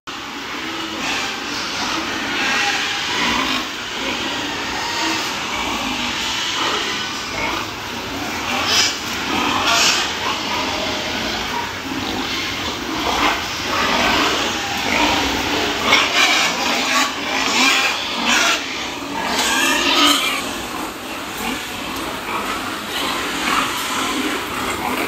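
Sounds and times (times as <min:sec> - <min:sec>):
pigs grunting and squealing: 0:00.1 - 0:25.0.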